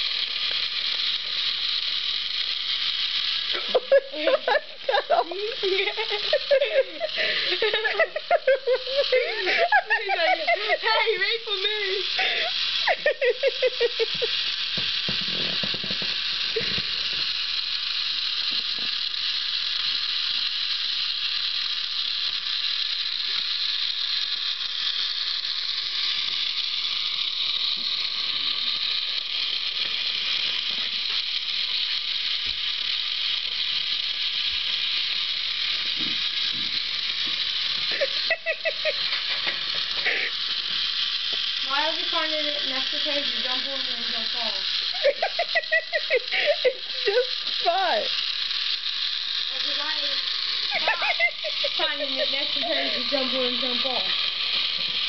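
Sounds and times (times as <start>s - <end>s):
toy train motor and gears whirring: 0.0s - 55.0s.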